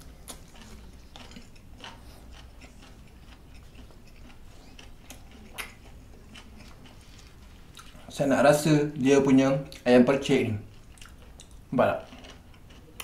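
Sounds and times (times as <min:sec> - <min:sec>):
person chewing food: 0:00.0 - 0:08.1, 0:09.6 - 0:09.9, 0:10.6 - 0:13.0.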